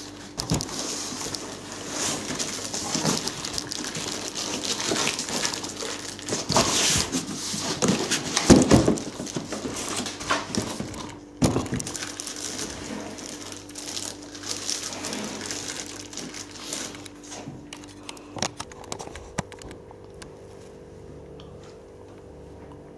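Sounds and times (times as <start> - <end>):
packaging crinkling and rustling: 0.0 - 20.1.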